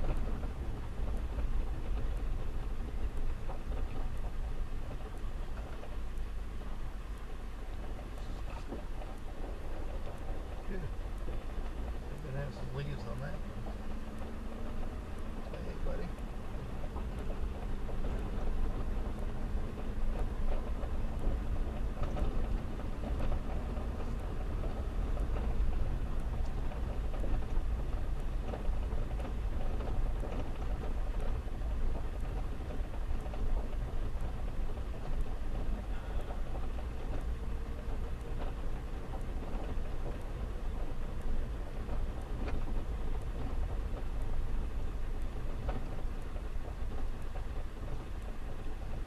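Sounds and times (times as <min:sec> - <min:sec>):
road and wind noise rumble: 0:00.0 - 0:49.0.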